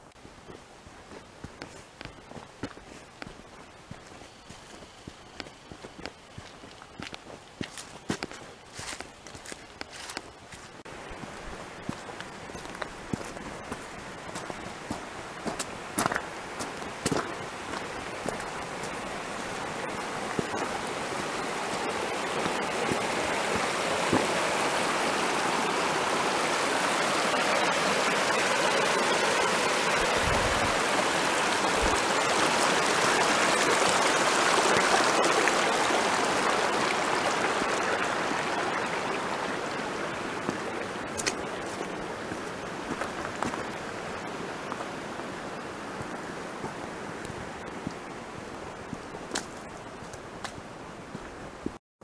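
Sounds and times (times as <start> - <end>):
creek running over rocks: 0.0 - 51.8.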